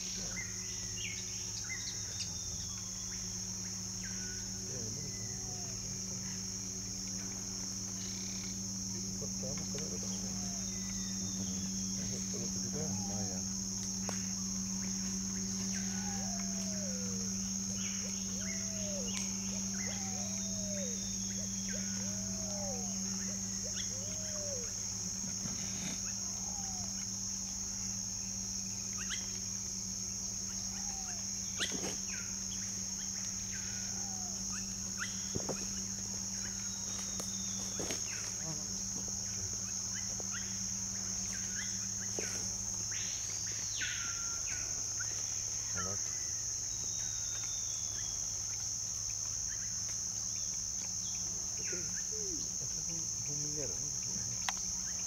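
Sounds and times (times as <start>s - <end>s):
insect chorus drone: 0.0s - 55.0s
low hum: 0.0s - 55.0s.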